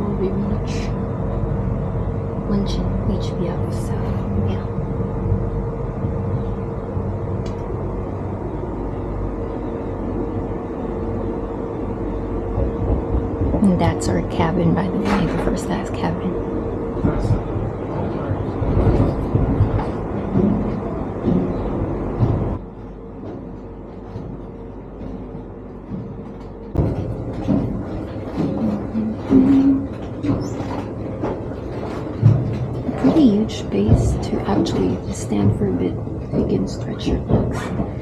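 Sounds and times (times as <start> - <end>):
constant hum: 0.0 - 38.0
train rumbling at speed: 0.0 - 38.0.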